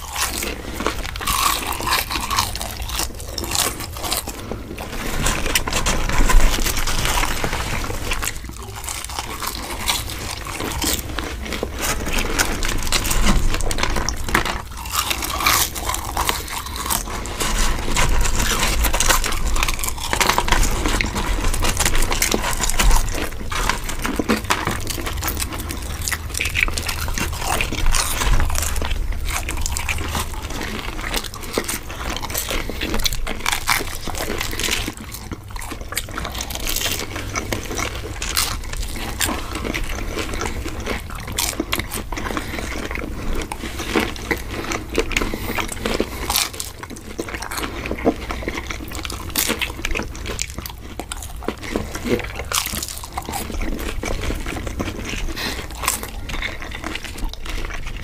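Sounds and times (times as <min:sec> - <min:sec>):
chewing crunchy food: 0:00.0 - 0:58.0.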